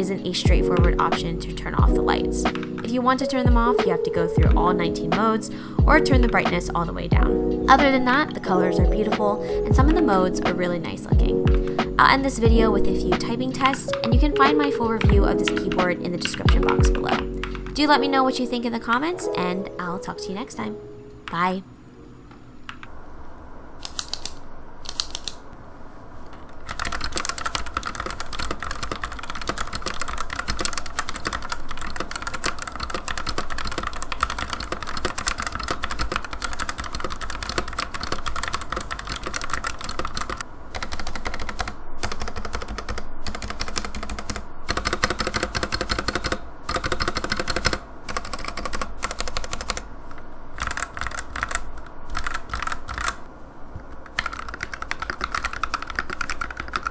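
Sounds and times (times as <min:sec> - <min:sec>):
mechanical keyboard typing: 0:00.0 - 0:18.1, 0:23.8 - 0:25.5, 0:26.6 - 0:49.8, 0:50.6 - 0:53.3, 0:54.0 - 0:56.9.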